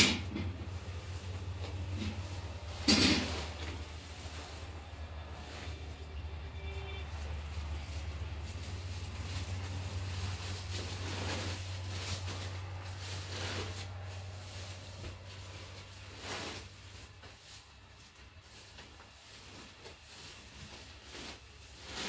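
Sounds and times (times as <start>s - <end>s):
plastic tarp rustling: 0.0s - 22.0s.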